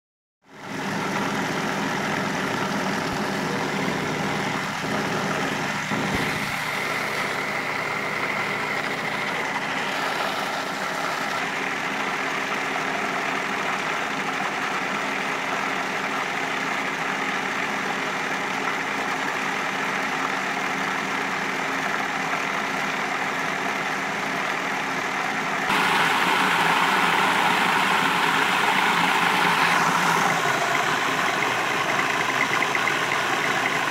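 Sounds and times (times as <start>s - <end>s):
food processor motor running: 0.5s - 33.9s.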